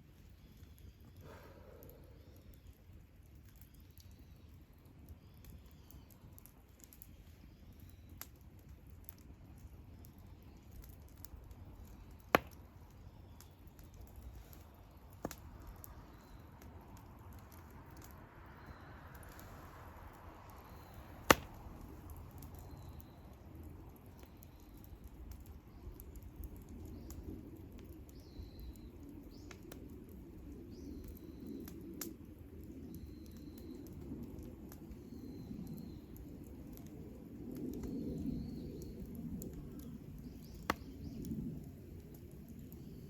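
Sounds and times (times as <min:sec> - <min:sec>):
campfire flames flickering: 0:00.0 - 0:43.0
fire crackles and pops: 0:00.0 - 0:43.0.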